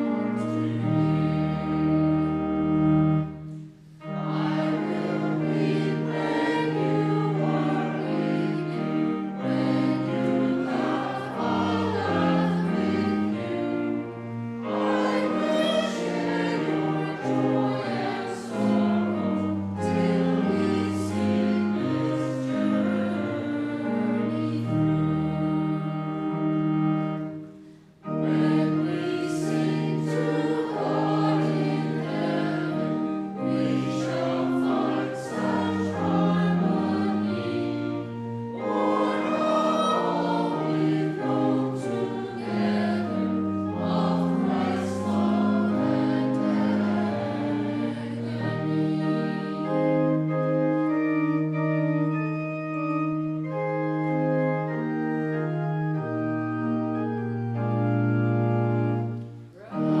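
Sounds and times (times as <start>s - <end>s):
voices singing a hymn: 0.0s - 52.2s, 53.5s - 60.0s
pipe organ chords: 0.0s - 60.0s.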